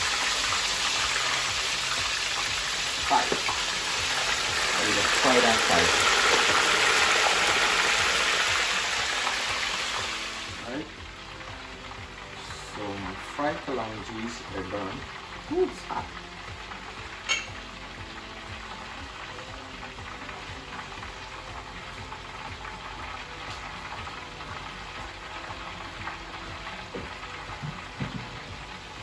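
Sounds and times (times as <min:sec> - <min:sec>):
vegetables frying in hot oil: 0:00.0 - 0:29.0.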